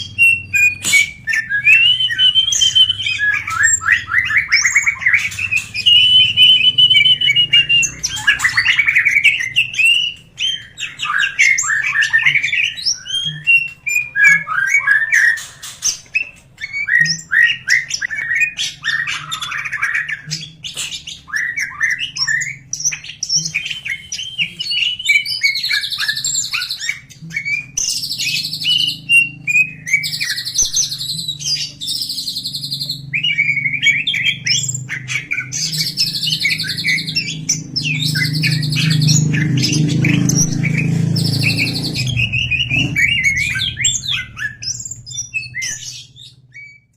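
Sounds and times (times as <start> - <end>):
bird singing chirps and trills: 0.0 - 46.9
buzzy bird notes: 0.0 - 46.9.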